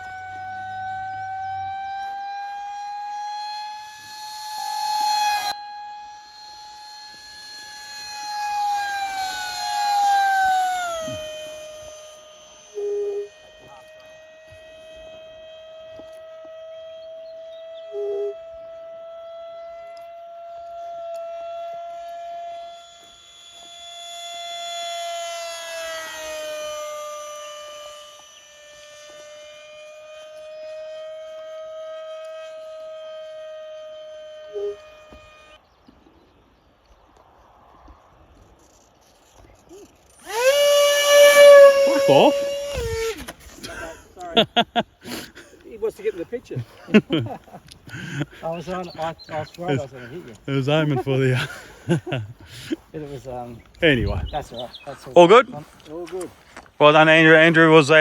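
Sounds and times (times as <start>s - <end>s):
model jet whining: 0.0s - 37.2s, 37.8s - 58.0s.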